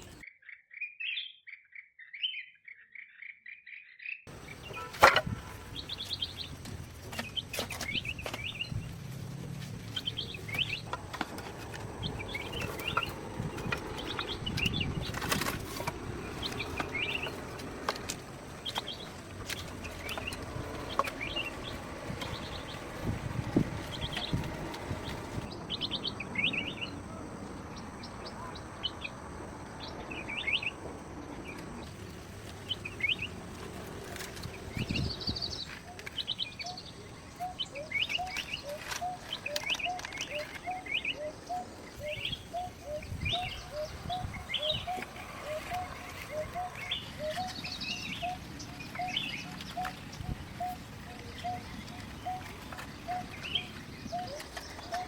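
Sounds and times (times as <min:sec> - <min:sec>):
birds chirping and singing: 0:00.0 - 0:09.0, 0:09.8 - 0:30.8, 0:31.4 - 0:55.0.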